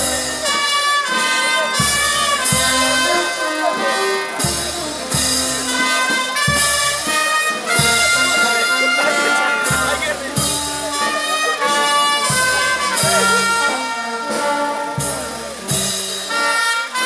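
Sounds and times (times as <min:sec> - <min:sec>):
bass drum and cymbal strikes: 0:00.0 - 0:17.0
brass holding long notes: 0:00.0 - 0:17.0.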